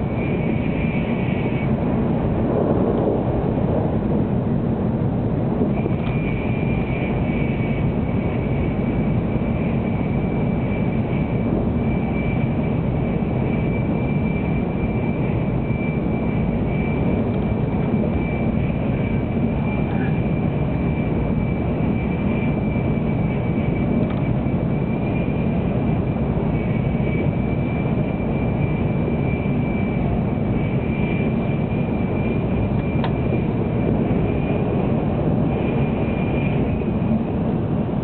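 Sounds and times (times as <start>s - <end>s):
high-pitched whine: 0.0s - 38.0s
train running rumble: 0.0s - 38.0s.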